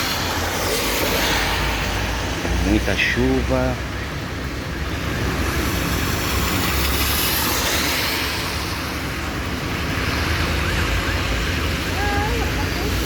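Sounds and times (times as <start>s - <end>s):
heavy rain falling: 0.0s - 13.0s
traffic on wet road: 0.0s - 13.0s.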